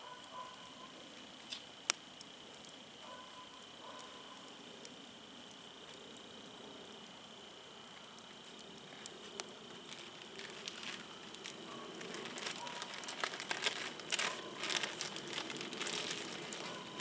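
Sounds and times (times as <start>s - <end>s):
wood fire crackling and popping: 1.1s - 17.0s
sharp fire snaps: 1.2s - 3.0s, 4.4s - 17.0s.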